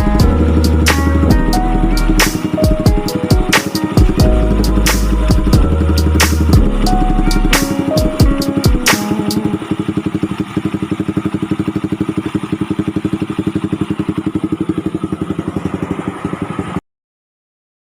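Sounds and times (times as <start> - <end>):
motorcycle engine idling: 0.0 - 16.8.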